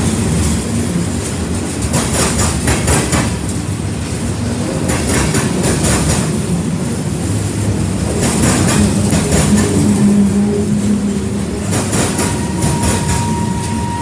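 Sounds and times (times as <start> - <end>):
steel wheels rumbling: 0.0 - 14.0
wheels clicking over rail joints: 0.0 - 14.0.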